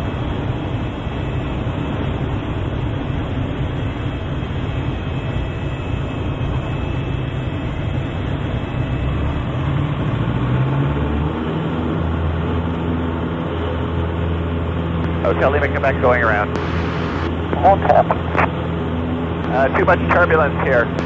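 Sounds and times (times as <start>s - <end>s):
propeller plane engine running: 0.0s - 21.0s.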